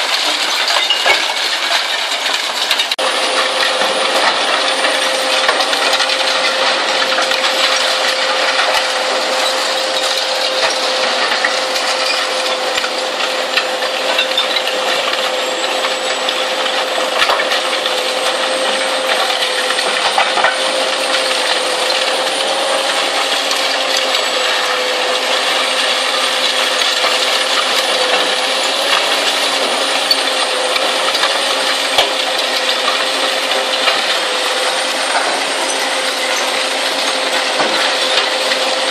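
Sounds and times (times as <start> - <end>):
metal clattering and crunching: 0.0 - 38.9.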